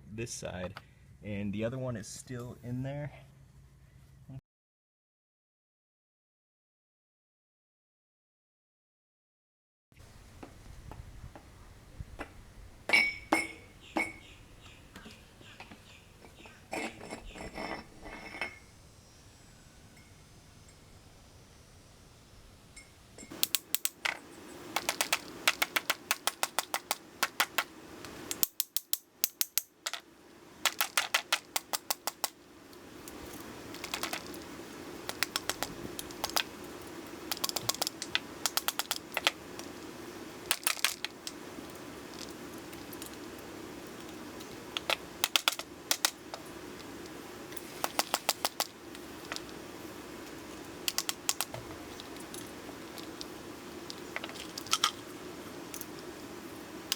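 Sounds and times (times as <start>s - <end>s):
faint steady hum: 10.0s - 56.9s.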